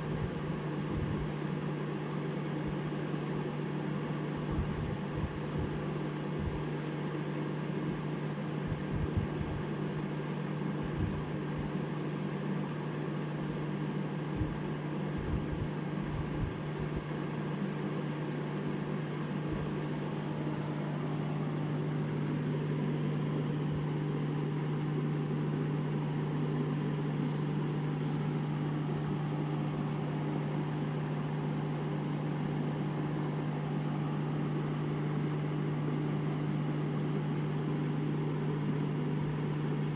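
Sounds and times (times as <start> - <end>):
aquarium aeration hum: 0.0 - 39.9.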